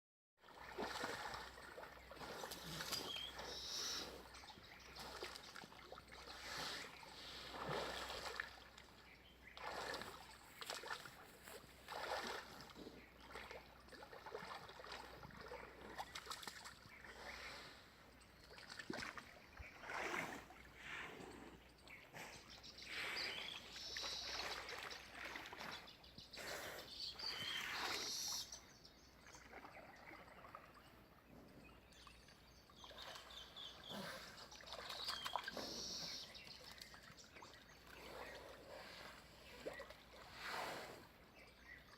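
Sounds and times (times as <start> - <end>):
water splashing and sloshing: 0.4 - 41.9.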